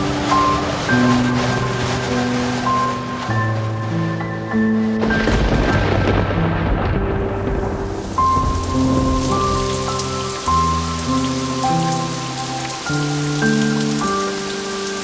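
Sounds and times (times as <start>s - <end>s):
thunder rumbling: 0.0s - 14.4s
soft relaxation music: 0.0s - 15.0s
steady rain: 0.0s - 15.0s.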